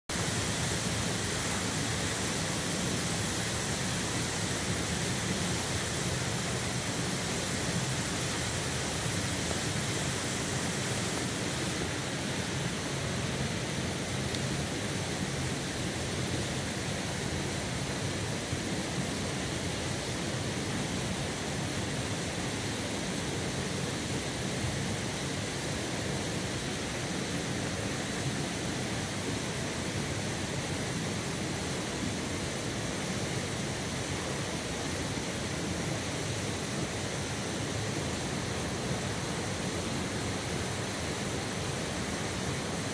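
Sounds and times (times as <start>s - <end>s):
mountain stream rushing: 0.1s - 42.9s.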